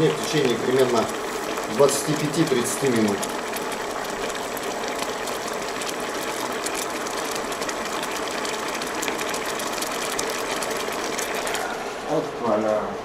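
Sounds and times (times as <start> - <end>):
sauce sizzling in a frying pan: 0.0 - 11.8.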